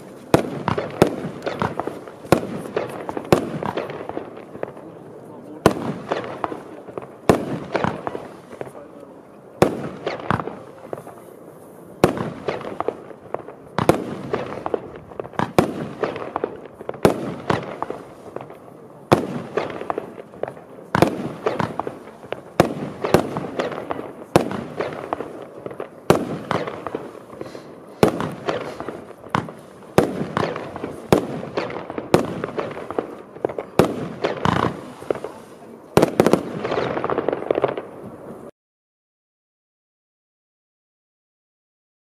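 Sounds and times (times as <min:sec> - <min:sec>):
firework bangs: 0:00.0 - 0:38.5.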